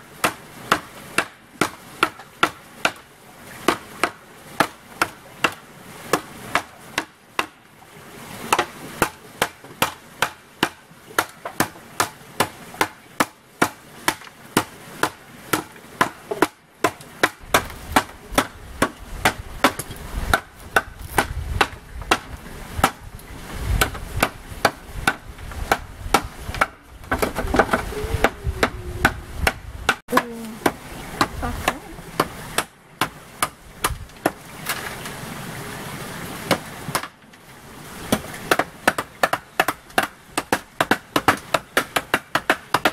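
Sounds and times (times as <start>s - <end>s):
hand tool striking wood: 0.2s - 3.0s, 3.6s - 7.6s, 8.5s - 23.0s, 23.8s - 34.9s, 36.5s - 37.2s, 38.1s - 42.9s.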